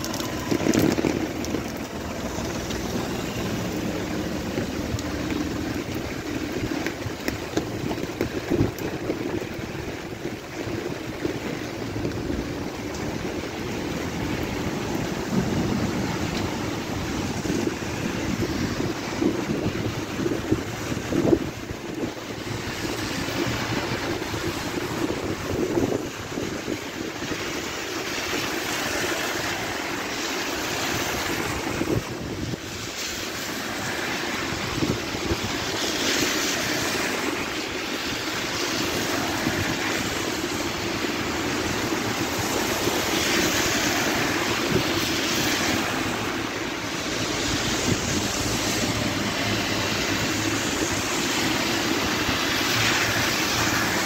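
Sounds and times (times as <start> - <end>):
rain on a wet street: 0.0 - 54.0
rain on an umbrella: 0.0 - 54.0.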